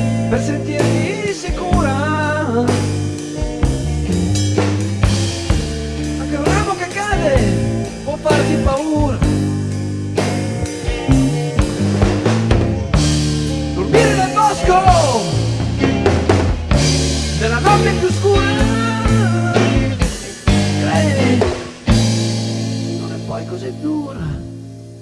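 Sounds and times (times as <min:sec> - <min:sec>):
rock song with bending lead melody: 0:00.0 - 0:25.0.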